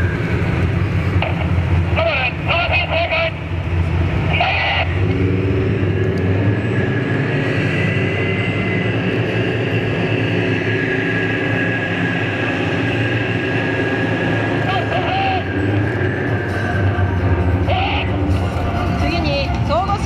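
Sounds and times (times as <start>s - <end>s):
high whine of moving tracks: 0.0s - 20.0s
tank diesel engines running: 0.0s - 20.0s.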